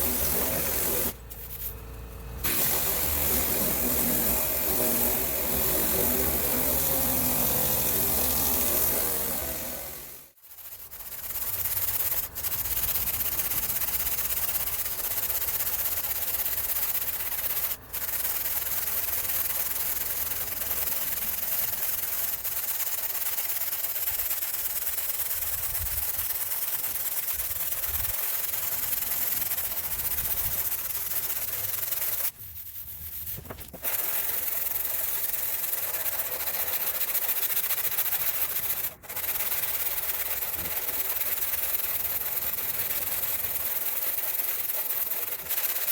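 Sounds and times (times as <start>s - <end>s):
sanding on sheet metal: 0.0s - 1.8s, 2.4s - 45.9s.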